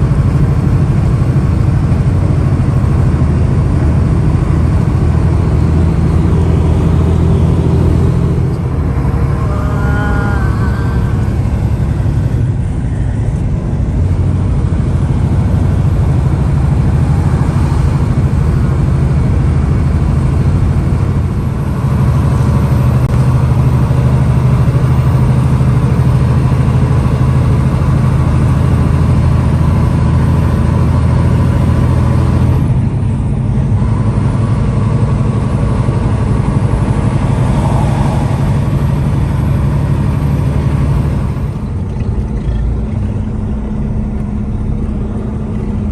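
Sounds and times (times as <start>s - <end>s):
road noise: 0.0s - 45.9s
truck diesel engine droning: 0.0s - 45.9s.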